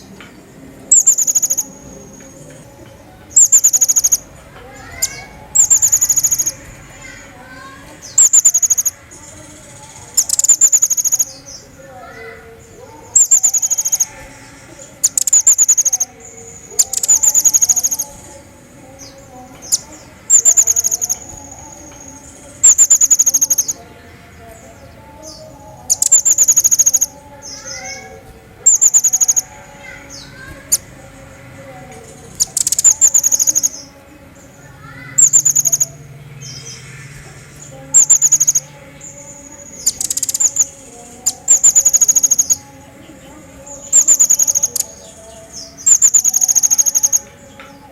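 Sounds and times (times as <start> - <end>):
bird chattering trills: 0.0 - 47.9
faint bird notes: 0.0 - 47.9.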